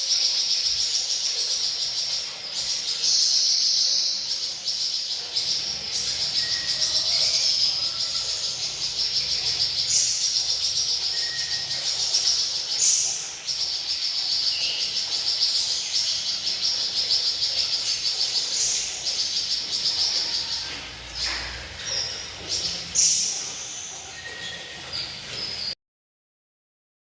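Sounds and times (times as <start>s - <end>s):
cage bird trilling: 0.0s - 25.7s.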